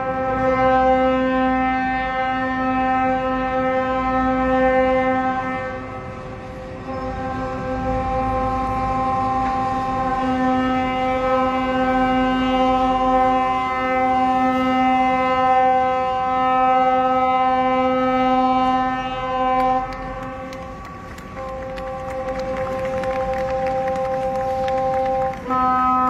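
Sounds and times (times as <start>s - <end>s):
ship's horn blast: 0.0s - 26.0s.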